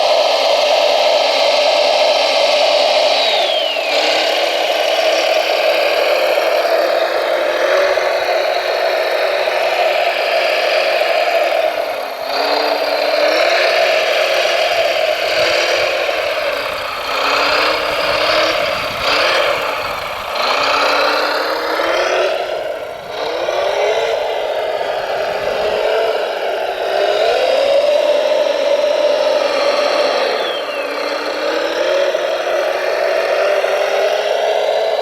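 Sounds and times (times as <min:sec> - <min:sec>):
electric motors whining: 0:00.0 - 0:35.0.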